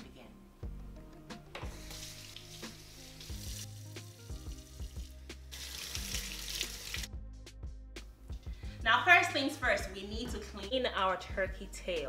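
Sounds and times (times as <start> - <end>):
background music with low notes: 0.0 - 12.0.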